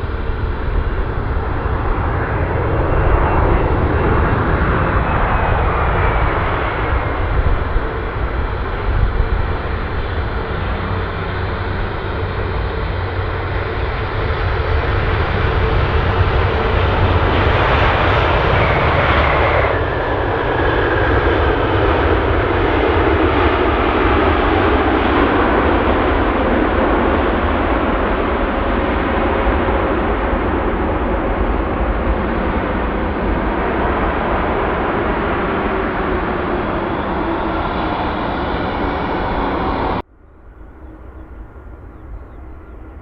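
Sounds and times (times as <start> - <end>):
high jet engine whine: 0.0 - 43.0
jet airliner landing: 0.0 - 43.0.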